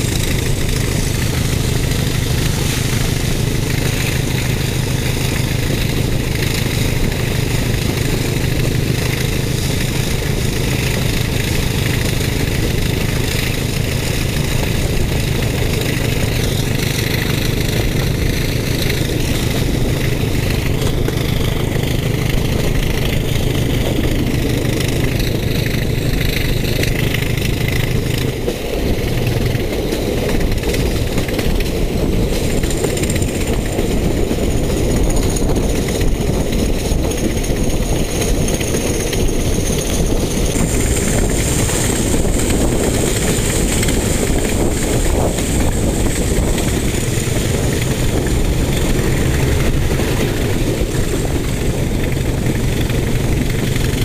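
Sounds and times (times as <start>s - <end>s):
rushing air: 0.0s - 27.8s, 37.6s - 54.0s
diesel locomotive engine drone: 0.0s - 54.0s.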